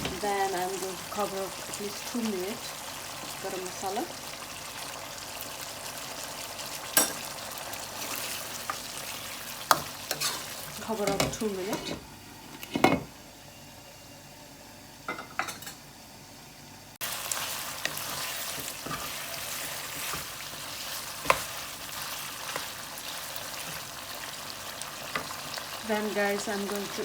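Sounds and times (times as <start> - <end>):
chicken sizzling in a pan: 0.0 - 12.4, 17.0 - 27.0.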